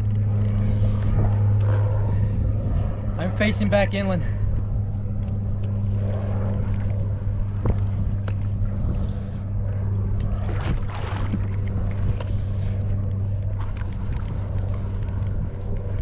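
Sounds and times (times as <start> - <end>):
steady low hum: 0.0 - 16.0
water and wind noise: 0.0 - 16.0.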